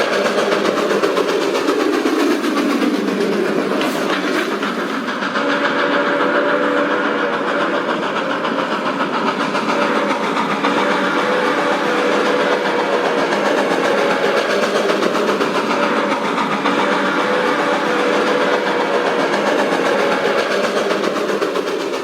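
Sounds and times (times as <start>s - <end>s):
steam train rolling along track: 0.0s - 22.0s.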